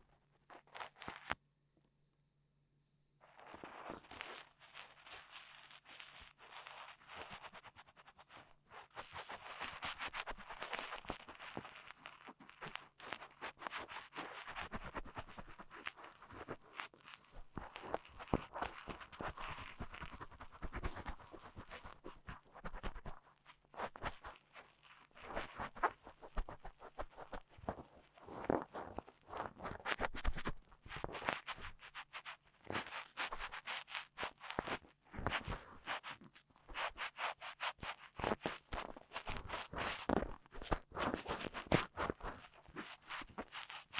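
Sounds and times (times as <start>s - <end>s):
cotton swab scraping in ear: 3.4s - 43.9s.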